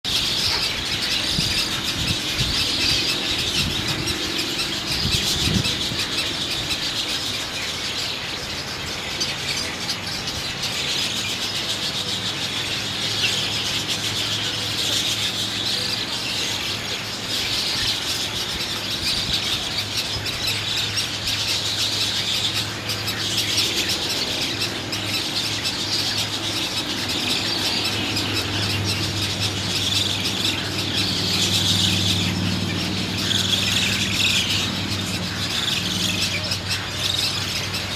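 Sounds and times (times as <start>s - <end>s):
bird chicks squealing: 0.1s - 37.9s.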